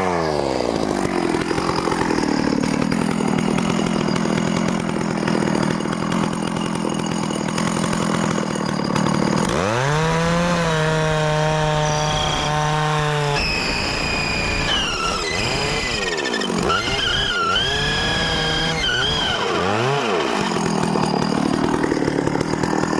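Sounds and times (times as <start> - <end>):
small chainsaw engine revving: 0.0 - 22.9.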